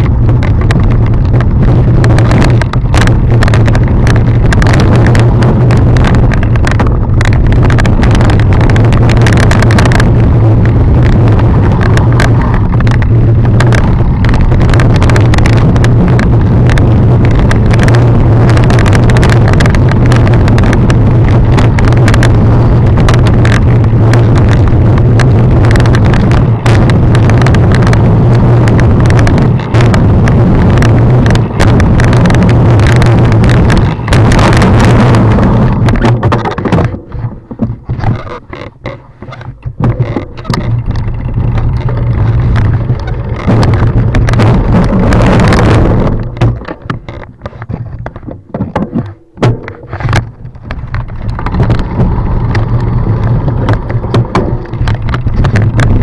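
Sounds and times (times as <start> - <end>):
mountain bike rattling over rough trail: 0.0 - 56.0
wind rumble on microphone: 0.0 - 56.0.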